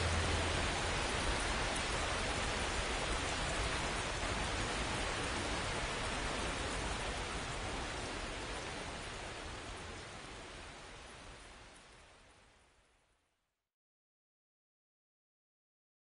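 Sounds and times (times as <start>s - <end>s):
steady rain falling: 0.0s - 13.4s.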